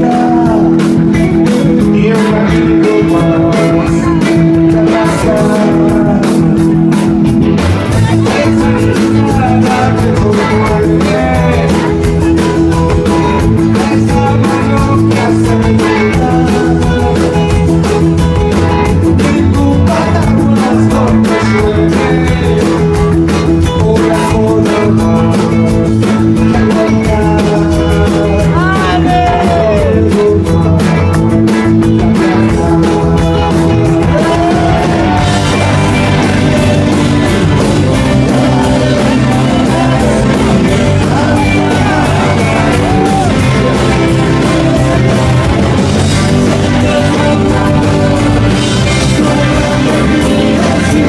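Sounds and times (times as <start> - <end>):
lead singer singing: 0.0 - 51.0
live rock band playing: 0.0 - 51.0.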